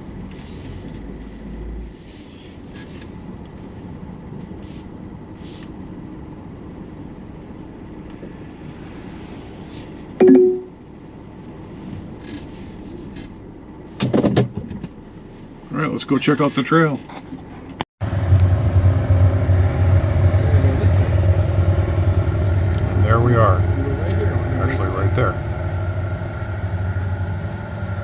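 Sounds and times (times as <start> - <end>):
vehicle road and engine noise: 0.0 - 10.2, 10.8 - 15.8, 17.0 - 28.0.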